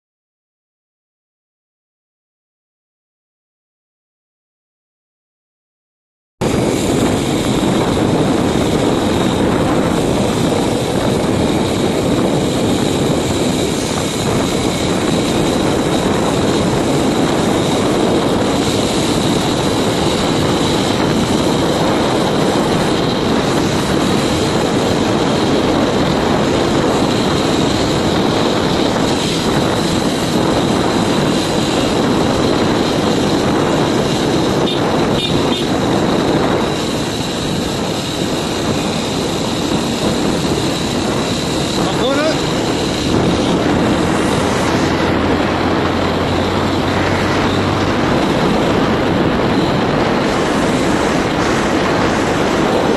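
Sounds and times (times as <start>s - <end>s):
motorbike engine drone: 6.4s - 52.9s
wind rushing over microphone: 6.4s - 52.9s.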